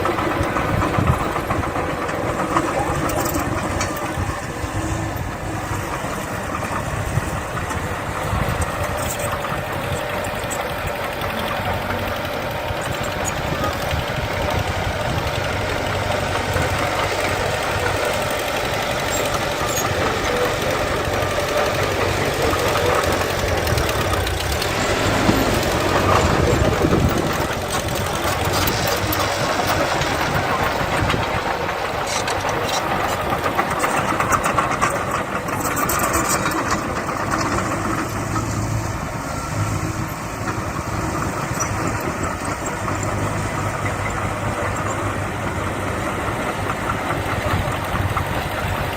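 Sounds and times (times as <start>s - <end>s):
diesel machinery engines running: 0.0s - 48.9s.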